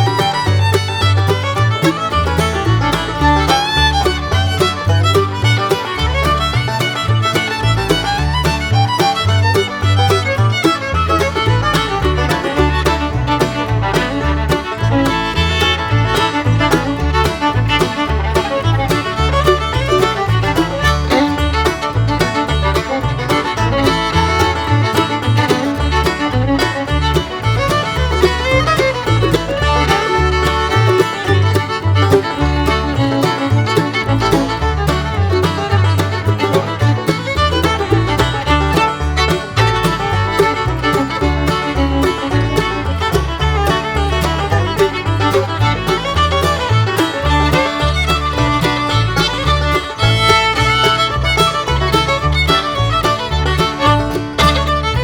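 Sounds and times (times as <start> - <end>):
bluegrass music with fiddle and banjo: 0.0 - 55.0.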